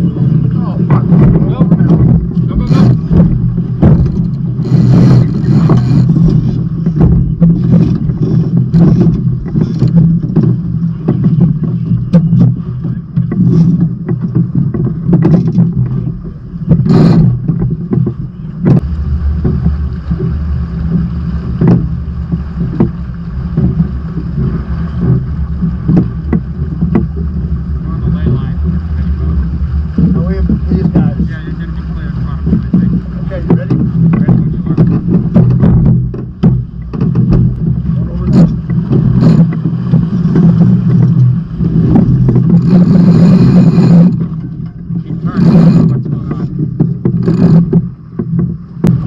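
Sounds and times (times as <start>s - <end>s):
deep steady rumble: 0.0s - 49.0s
water slapping against hull: 0.0s - 49.0s.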